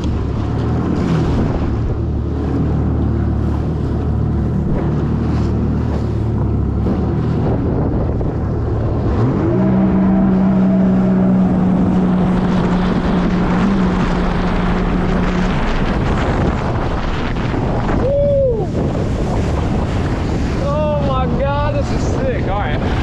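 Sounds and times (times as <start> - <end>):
jet ski engine revving: 0.0 - 23.0
water rushing: 0.0 - 23.0
wind buffeting microphone: 0.0 - 23.0.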